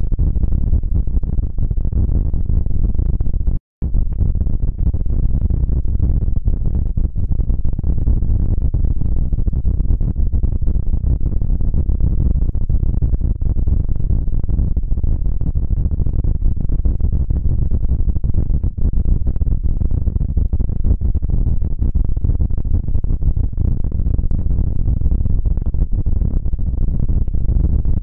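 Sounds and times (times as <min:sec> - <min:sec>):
muffled low noise drone: 0:00.0 - 0:28.0.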